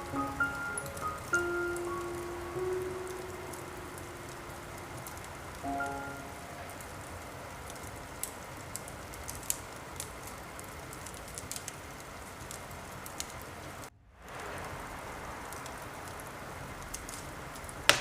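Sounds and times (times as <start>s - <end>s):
steady rain hiss: 0.0s - 18.0s
wood fire crackling and popping: 0.0s - 18.0s.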